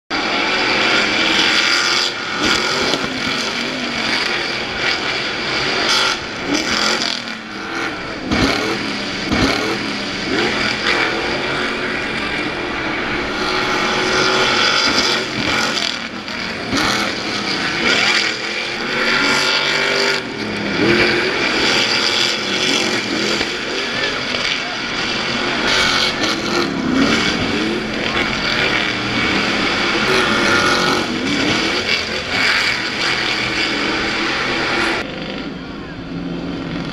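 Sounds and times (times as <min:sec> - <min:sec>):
truck engines revving past: 0:00.1 - 0:36.9.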